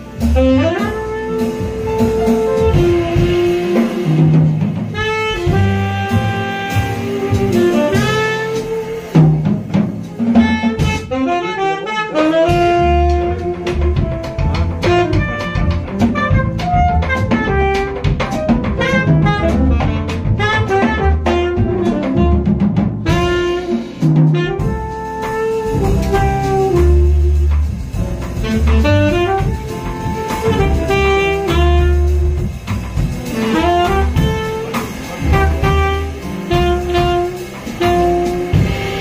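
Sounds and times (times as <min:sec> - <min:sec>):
drums and bass: 0:00.0 - 0:39.0
jazz saxophone melody: 0:00.0 - 0:39.0.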